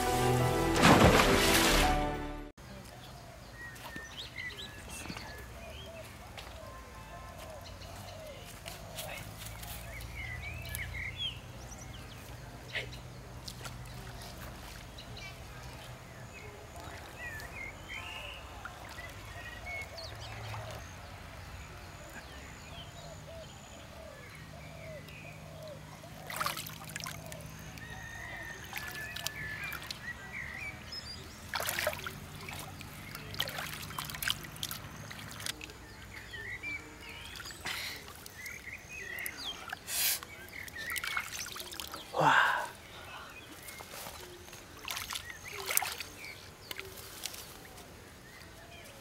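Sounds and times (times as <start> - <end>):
muddy water sloshing and splashing: 0.0 - 3.0, 7.3 - 21.7, 25.6 - 48.6
birds calling: 2.8 - 49.0.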